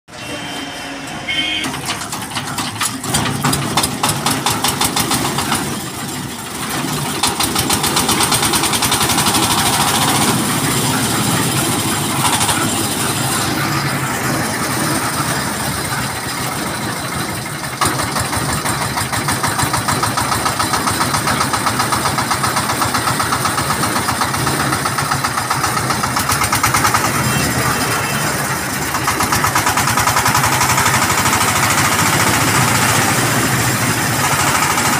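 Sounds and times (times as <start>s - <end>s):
diesel engine chugging: 0.1s - 34.9s.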